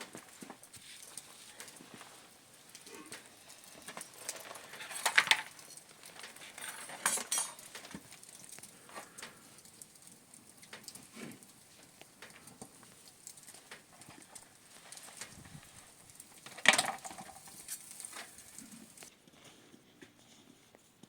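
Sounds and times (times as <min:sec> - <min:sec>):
small knocks and clinks: 0:00.0 - 0:19.1.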